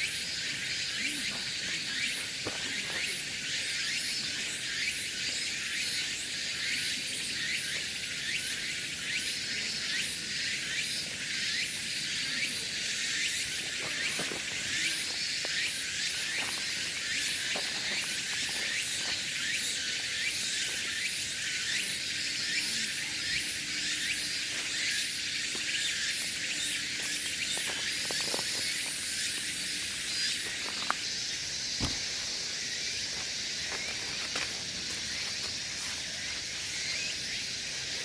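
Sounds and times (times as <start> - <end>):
shrill insect chorus: 0.0 - 38.0.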